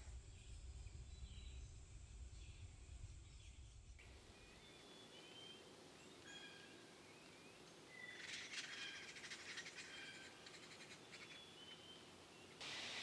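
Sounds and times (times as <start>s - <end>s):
faint birdsong whistled notes: 0.1s - 13.0s.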